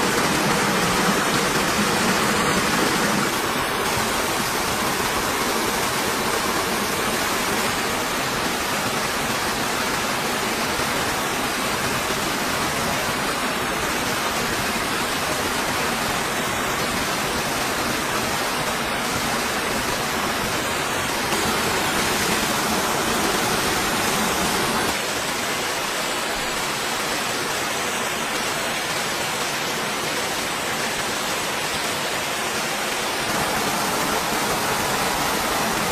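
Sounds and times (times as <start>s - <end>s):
small waterfall pouring: 0.0s - 35.9s.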